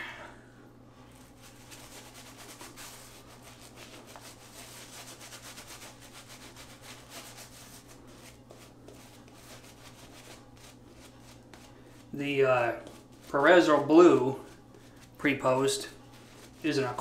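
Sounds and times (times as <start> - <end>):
shaving brush rubbing on stubble: 1.1 - 17.0.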